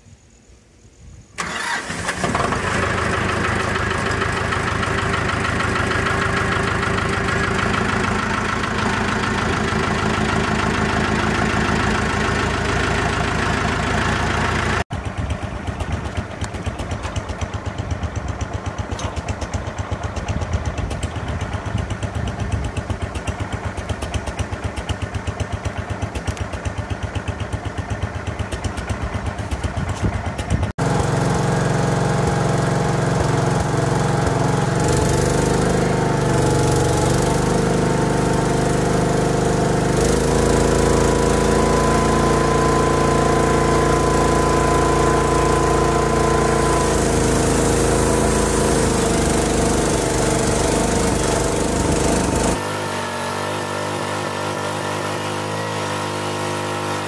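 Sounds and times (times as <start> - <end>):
engine idling: 1.4 - 52.8
tractor engine starting: 1.4 - 57.0.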